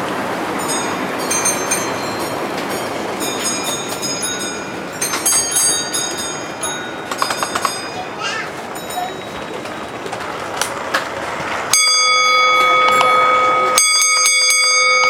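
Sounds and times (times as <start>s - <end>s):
model train rolling: 0.0s - 15.0s.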